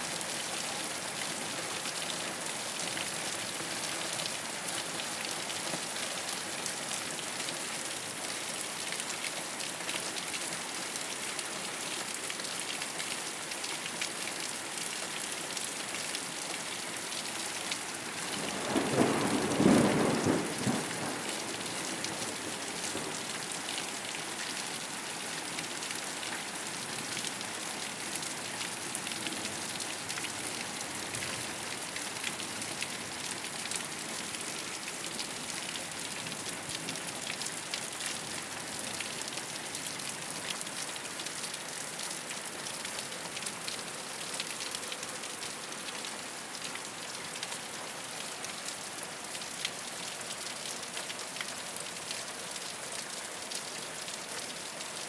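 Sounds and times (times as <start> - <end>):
rain on a rooftop: 0.0 - 55.0.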